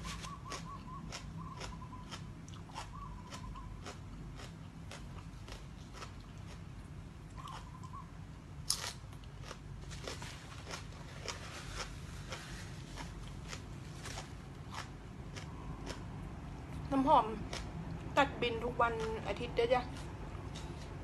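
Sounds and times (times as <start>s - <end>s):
person crunching and chewing food: 0.0s - 8.0s, 8.6s - 18.1s, 19.8s - 21.0s.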